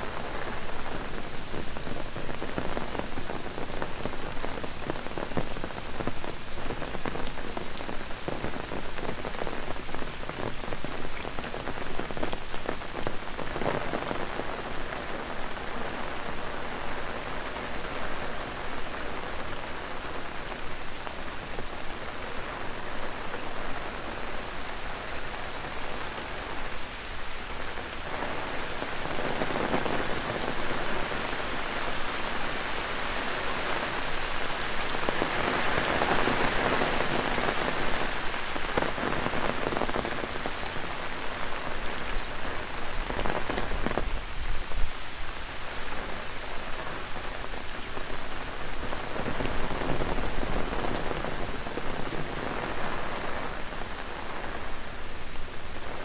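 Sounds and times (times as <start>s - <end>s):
cicada drone: 0.0s - 56.0s
rain pattering on an umbrella: 0.0s - 56.0s.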